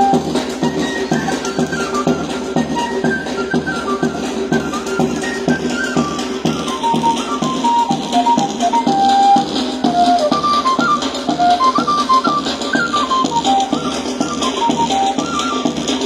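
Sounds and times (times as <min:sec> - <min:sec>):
drum beat: 0:00.0 - 0:16.0
flute melody: 0:00.0 - 0:16.0
maracas shaking: 0:00.0 - 0:16.0.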